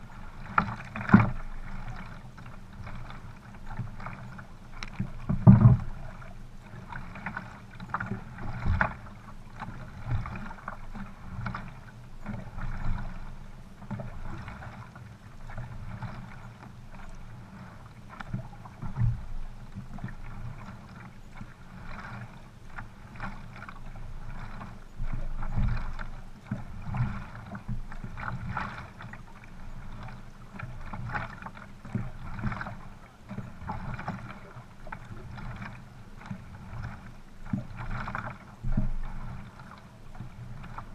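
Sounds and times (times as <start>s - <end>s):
water splashing against boat hull: 0.0s - 40.9s.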